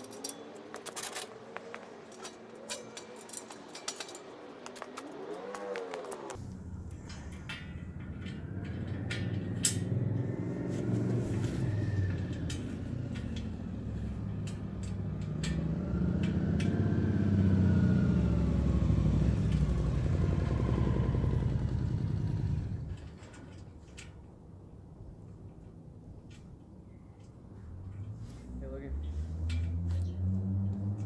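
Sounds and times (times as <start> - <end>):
vehicle passing by: 0.0 - 23.1, 27.8 - 31.0.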